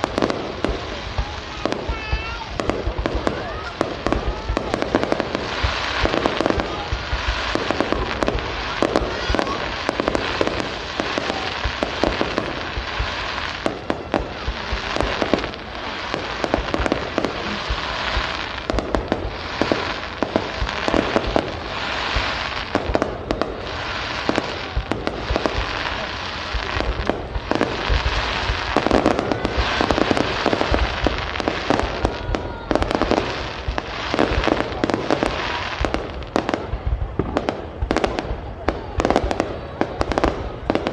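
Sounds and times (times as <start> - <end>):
fireworks bursting and crackling: 0.0 - 40.9
sharp firework bangs: 0.0 - 40.9.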